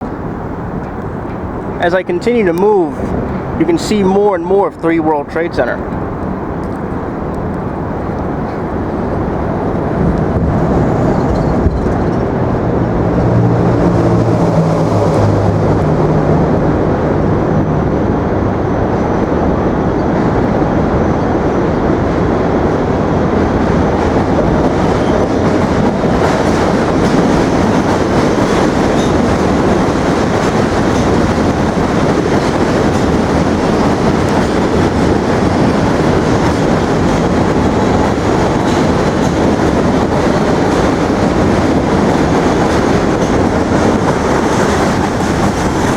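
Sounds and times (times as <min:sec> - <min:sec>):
train rumbling on rails: 0:00.0 - 0:45.9.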